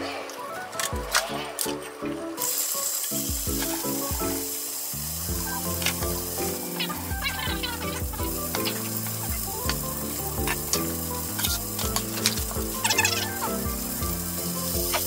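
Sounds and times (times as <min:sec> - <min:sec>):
fish sizzling in a frying pan: 0:02.4 - 0:15.0.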